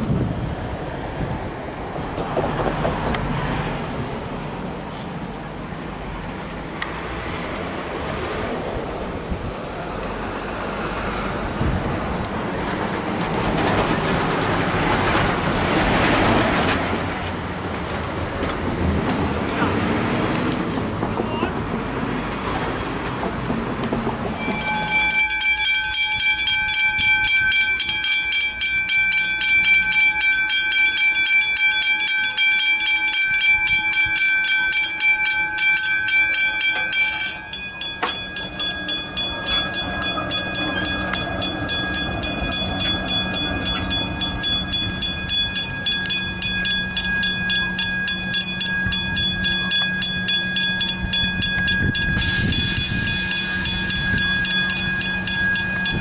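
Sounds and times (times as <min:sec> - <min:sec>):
train rumbling past: 0:00.0 - 0:56.0
crossing warning bells ringing: 0:06.1 - 0:56.0.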